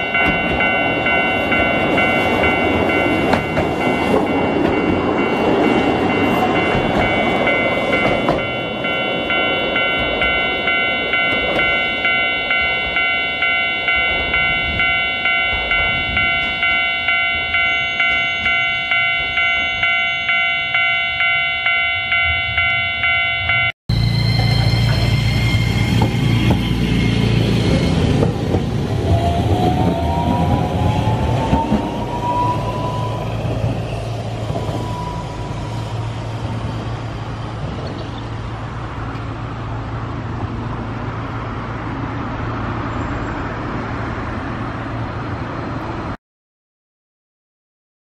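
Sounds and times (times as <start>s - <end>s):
tram rumbling: 0.0s - 46.2s.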